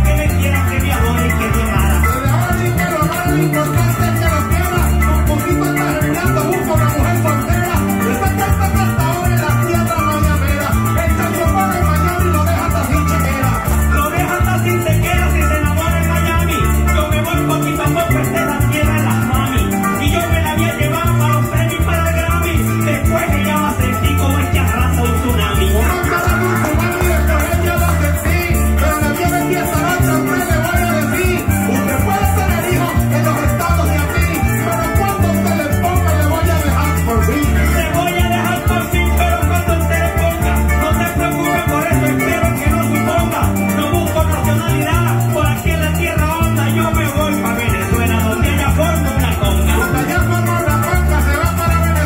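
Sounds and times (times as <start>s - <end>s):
bass line: 0.0s - 52.0s
cuatro plucking: 0.0s - 52.0s
maracas shaking: 0.0s - 52.0s.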